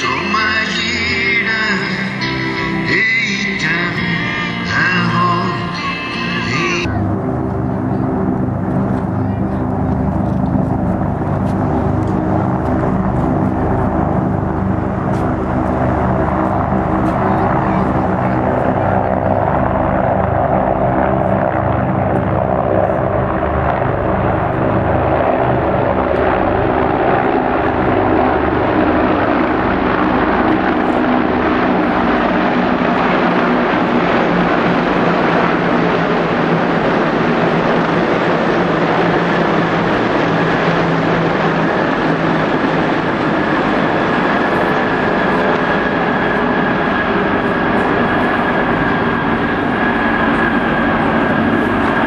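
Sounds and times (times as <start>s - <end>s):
helicopters flying overhead: 0.0s - 52.0s.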